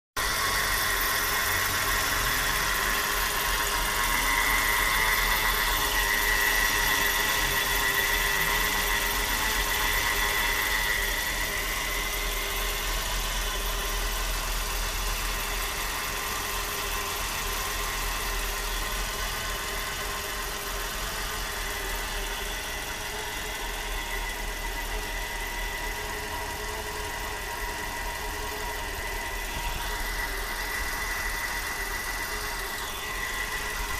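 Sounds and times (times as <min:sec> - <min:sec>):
high-pitched whine: 0:00.2 - 0:33.9
car engine idling: 0:00.3 - 0:33.9.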